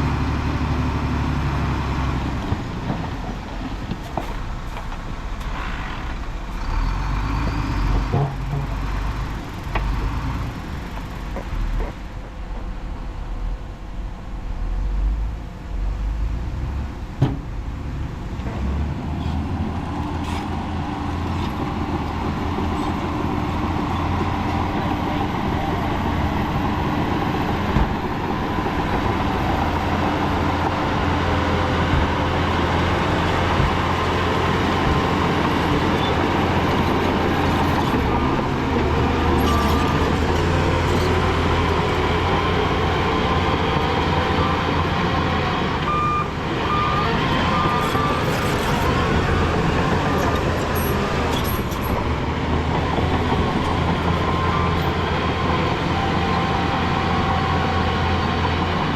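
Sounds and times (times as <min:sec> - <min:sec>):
diesel machinery running: 0:00.0 - 0:58.9.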